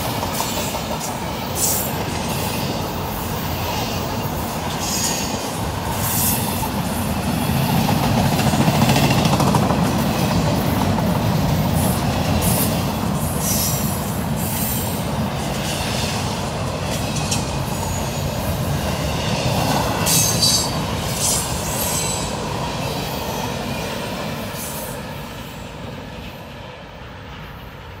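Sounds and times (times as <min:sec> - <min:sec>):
freight train wheels rumbling and clattering: 0:00.0 - 0:28.0.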